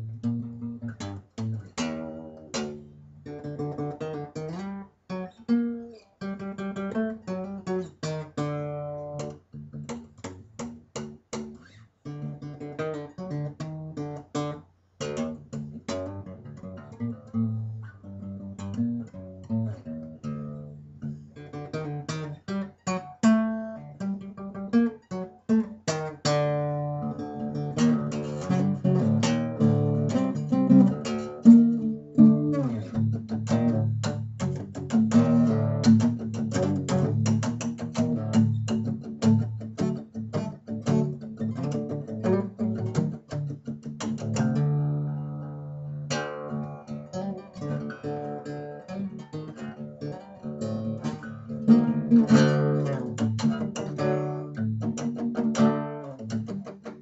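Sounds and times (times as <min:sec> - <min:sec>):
fingerpicked acoustic guitar: 0:00.0 - 0:57.0.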